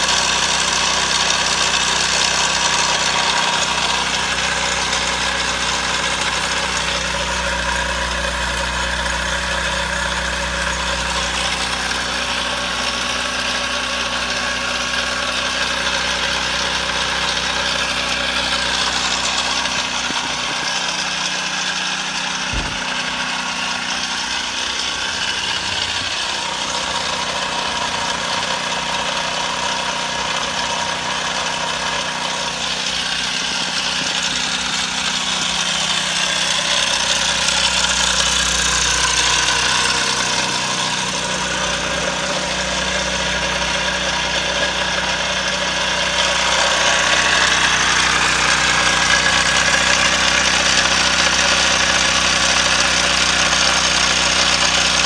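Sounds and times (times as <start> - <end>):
small engine idling: 0.0 - 55.0.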